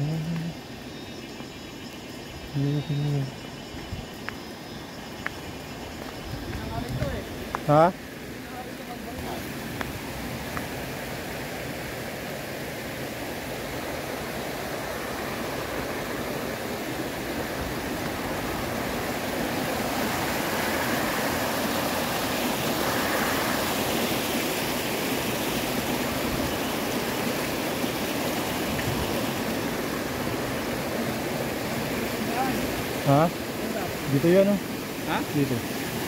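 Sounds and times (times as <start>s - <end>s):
flowing water rushing: 0.0s - 36.0s.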